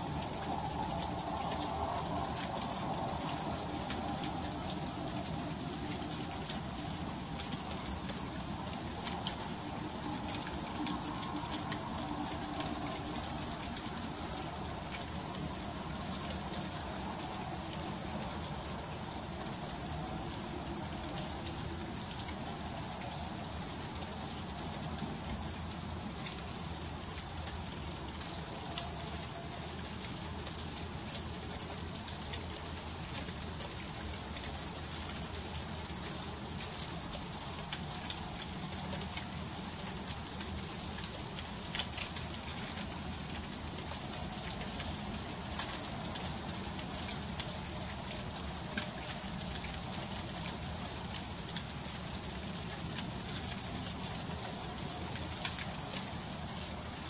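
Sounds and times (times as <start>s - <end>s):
freezing rain ticking: 0.0s - 57.0s.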